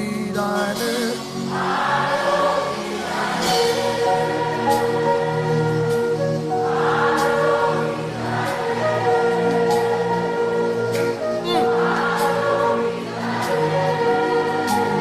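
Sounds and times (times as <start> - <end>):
congregation singing gospel chorus: 0.0 - 15.0
sustained keyboard chords: 0.0 - 15.0.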